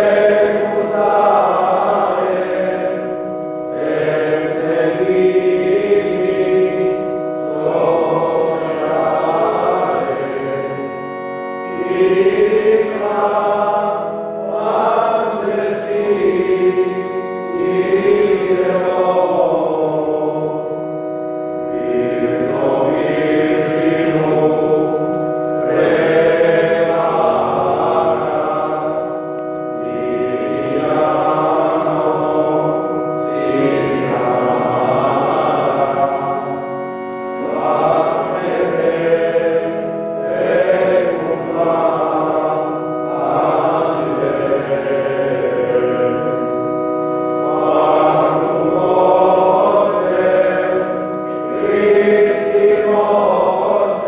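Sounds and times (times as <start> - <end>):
choir chanting a hymn: 0.0 - 54.0.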